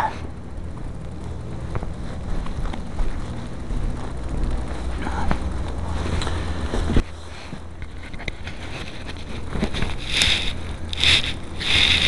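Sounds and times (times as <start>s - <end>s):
footsteps crunching in snow: 1.6s - 7.7s, 8.4s - 12.0s.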